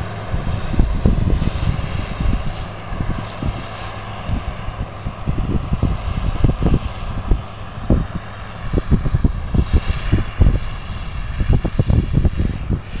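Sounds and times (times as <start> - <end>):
tractor diesel under heavy load: 0.0 - 13.0.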